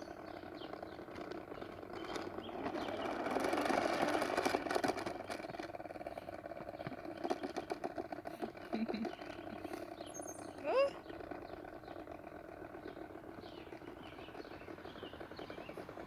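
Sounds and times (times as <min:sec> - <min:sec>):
toy lawnmower clicking rattle: 0:00.0 - 0:16.0.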